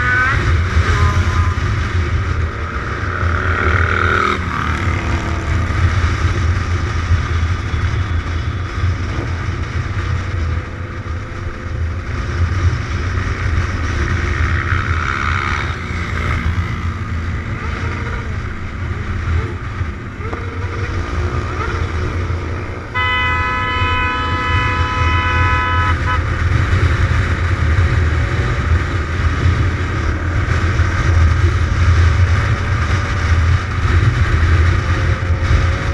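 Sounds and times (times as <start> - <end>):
motorcycle engine running: 0.0 - 35.9
wind on microphone: 0.0 - 35.9.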